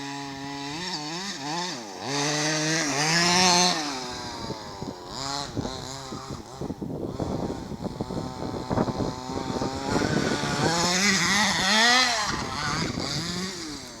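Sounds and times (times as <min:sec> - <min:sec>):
small two-stroke engine revving: 0:00.0 - 0:14.0.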